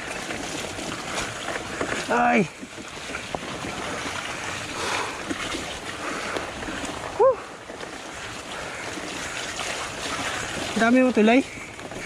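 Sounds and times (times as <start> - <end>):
bike rattle: 0.0 - 12.0
bike tyres on dirt trail: 0.0 - 12.0.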